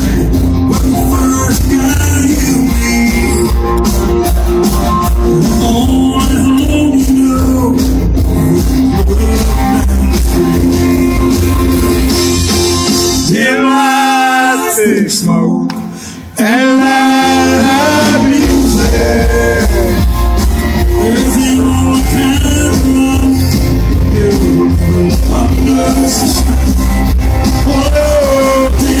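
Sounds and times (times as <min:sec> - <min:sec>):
man singing: 0:00.0 - 0:03.8, 0:05.0 - 0:12.4, 0:13.0 - 0:29.0
electric guitars: 0:00.0 - 0:14.7, 0:15.6 - 0:29.0
country band playing live: 0:00.0 - 0:29.0.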